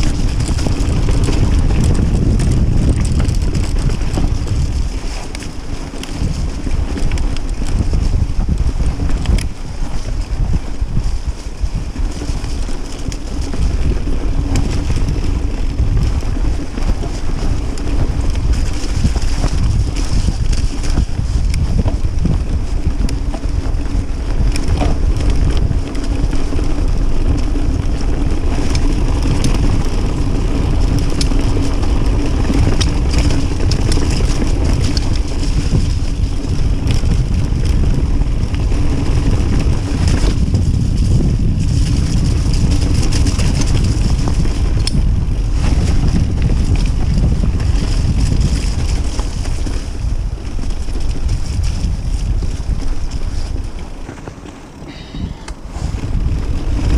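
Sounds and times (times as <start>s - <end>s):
bike clicks and rattles: 0.0s - 56.9s
tyres rumbling over dirt: 0.0s - 56.9s
wind buffeting microphone: 0.0s - 56.9s.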